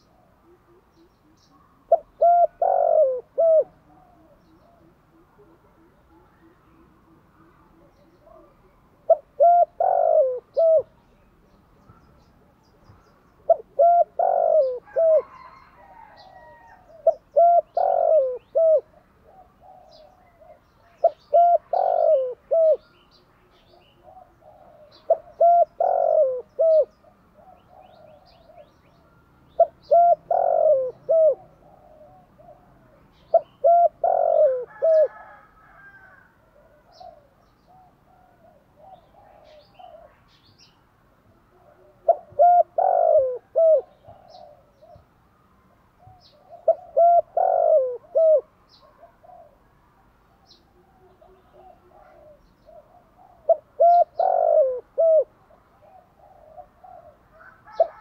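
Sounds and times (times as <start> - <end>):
dove cooing: 0.0 - 11.0, 11.9 - 40.4, 41.3 - 45.1, 46.0 - 49.7, 50.3 - 58.0.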